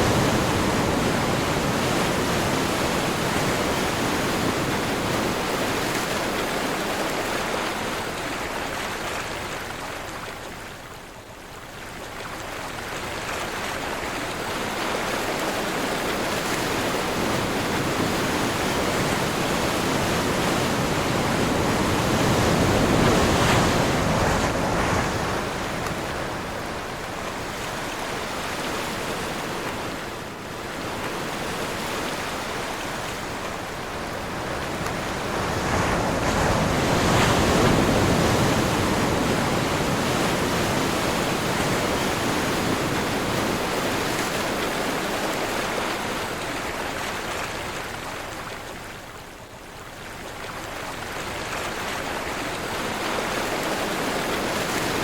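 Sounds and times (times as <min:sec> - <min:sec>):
ocean waves breaking: 0:00.0 - 0:10.3, 0:12.5 - 0:49.1, 0:50.2 - 0:55.0
wind: 0:00.0 - 0:55.0.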